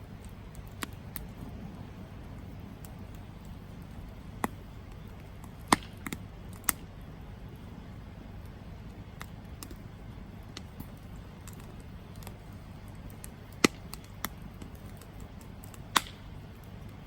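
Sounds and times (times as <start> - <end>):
sharp fire pops: 0.0 - 6.9, 8.4 - 17.0
campfire crackling: 0.0 - 17.0.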